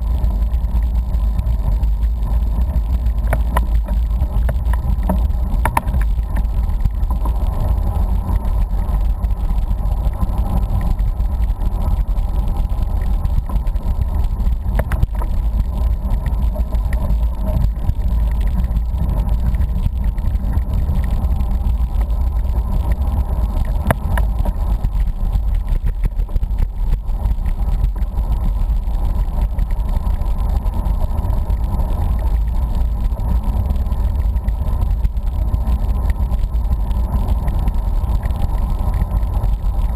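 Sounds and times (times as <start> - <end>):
bicycle tyre and road noise: 0.0 - 39.9.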